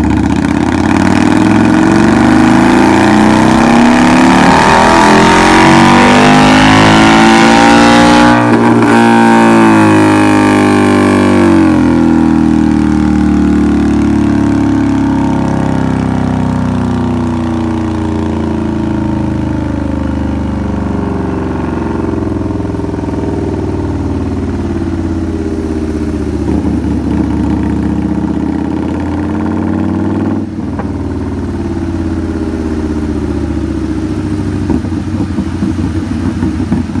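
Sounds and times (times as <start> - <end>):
motorcycle engine revving and idling: 0.0 - 37.0.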